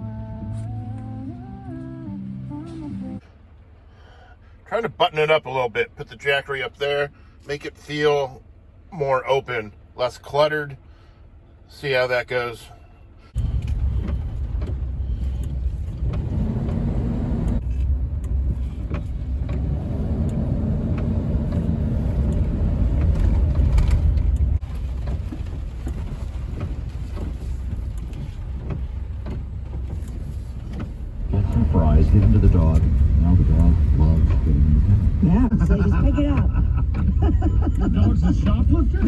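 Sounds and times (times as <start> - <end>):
van engine and road rumble: 0.0 - 39.0.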